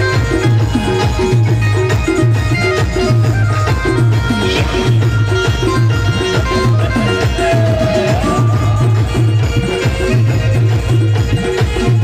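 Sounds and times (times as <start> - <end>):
live band dance music: 0.0 - 12.0.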